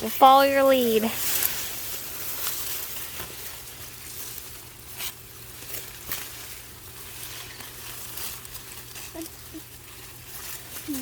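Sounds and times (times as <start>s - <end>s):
corn leaves rustling: 0.0s - 11.0s.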